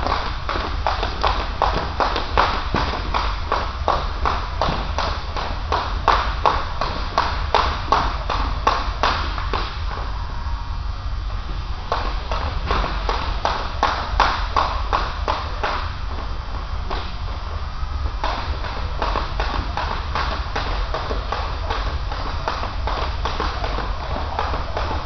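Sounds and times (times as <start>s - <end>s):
jump rope hitting gym floor: 0.0s - 10.1s, 11.5s - 17.5s, 18.1s - 25.0s
low hum: 0.0s - 25.0s.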